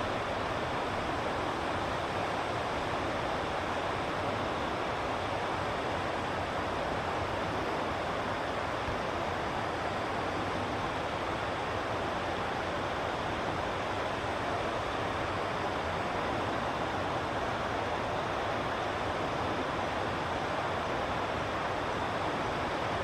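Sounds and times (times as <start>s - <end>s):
flowing river water: 0.0s - 23.0s.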